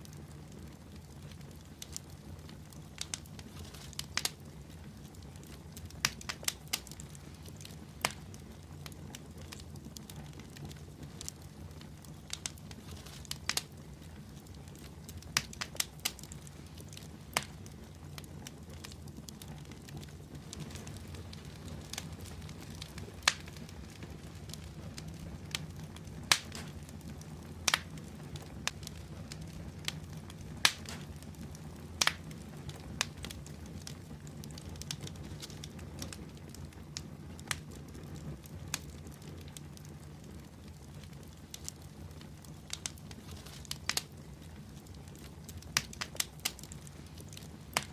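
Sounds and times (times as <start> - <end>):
fire popping and crackling: 0.0 - 47.9
fire rumbling: 0.0 - 47.9.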